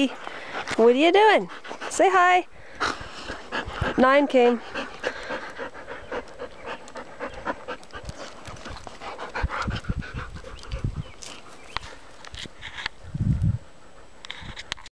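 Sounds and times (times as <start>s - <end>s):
dog panting rapidly: 0.0s - 12.2s.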